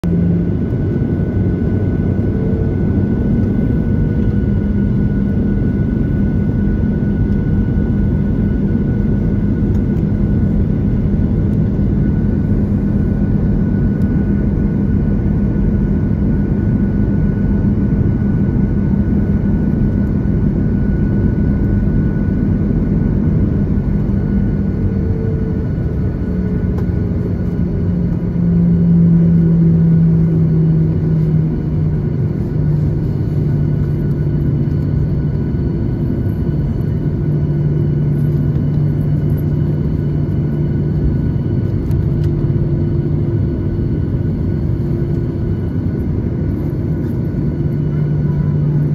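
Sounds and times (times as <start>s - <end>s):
jet engines humming in cabin: 0.0s - 48.9s.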